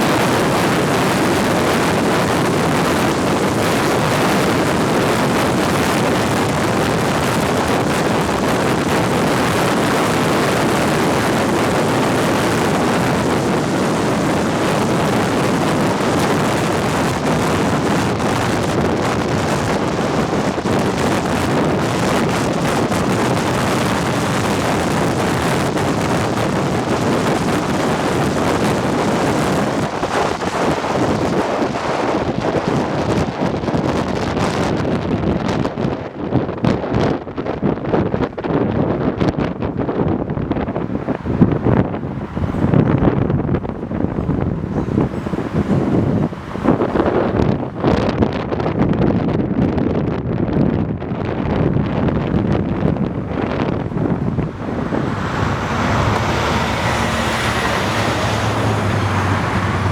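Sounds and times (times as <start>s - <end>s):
freeway traffic: 0.0s - 59.9s
wind buffeting microphone: 0.0s - 59.9s.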